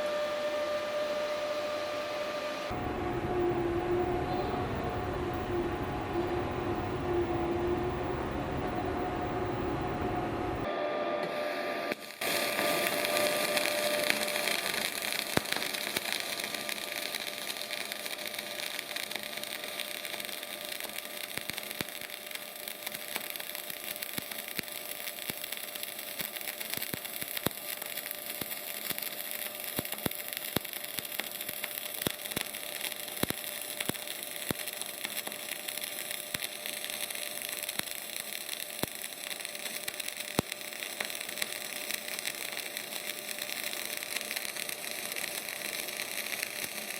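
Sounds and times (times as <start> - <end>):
welding arc hissing and crackling: 0.0 - 46.9.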